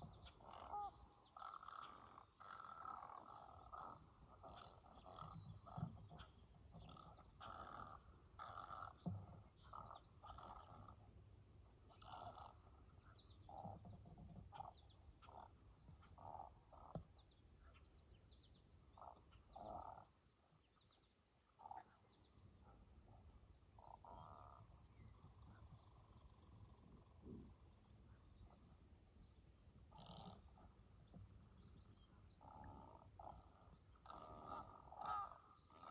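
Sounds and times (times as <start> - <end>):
crickets chirring: 0.0 - 35.9.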